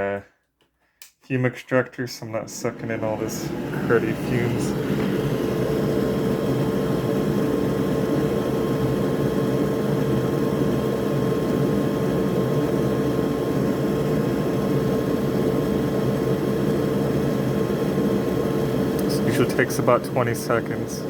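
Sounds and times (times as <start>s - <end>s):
constant hum: 2.0s - 21.0s
extractor fan whirring: 2.2s - 21.0s.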